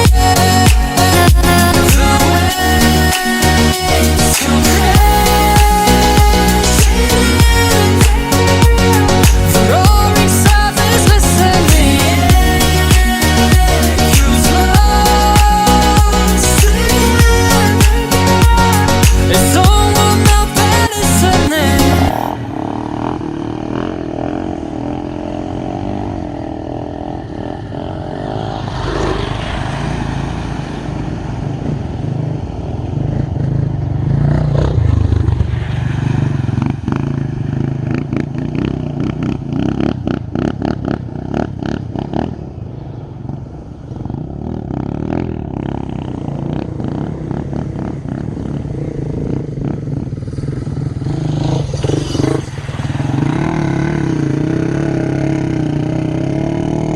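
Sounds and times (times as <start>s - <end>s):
dirt bike engine revving: 0.0s - 42.7s, 43.3s - 56.9s.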